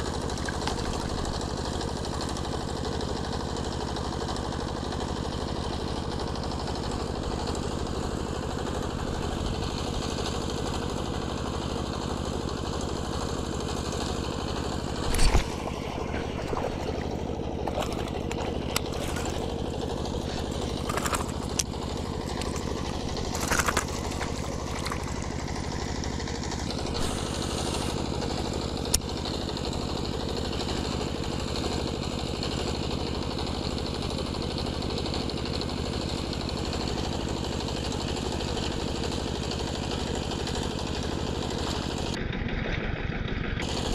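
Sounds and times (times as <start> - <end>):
motor-like drone: 0.0 - 35.3, 36.2 - 43.9.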